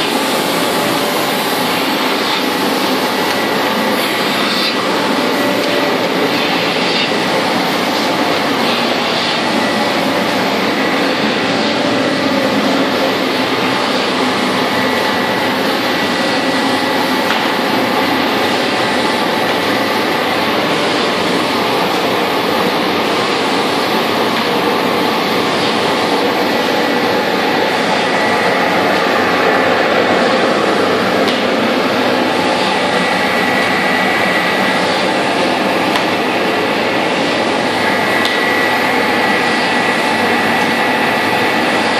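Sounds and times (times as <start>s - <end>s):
machine whirring: 0.0s - 41.9s
thin high whine: 0.0s - 41.9s.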